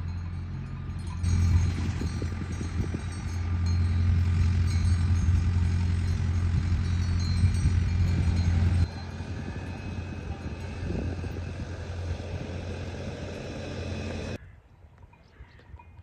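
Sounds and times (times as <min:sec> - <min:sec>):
engine-like rumble with hiss: 0:00.1 - 0:14.4.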